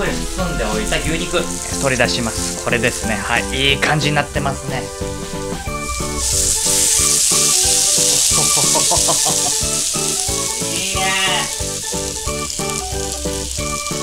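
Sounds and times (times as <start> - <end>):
steak sizzling on hot platter: 0.0 - 14.0.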